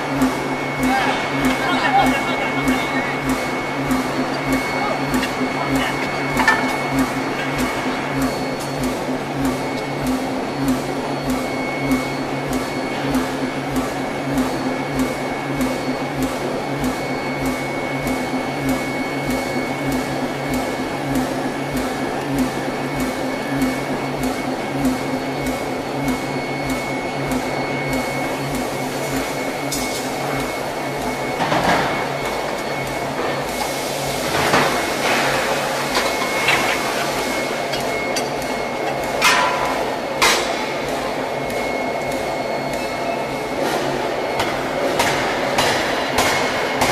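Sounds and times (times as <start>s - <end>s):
machine hum and whine: 0.0s - 46.9s.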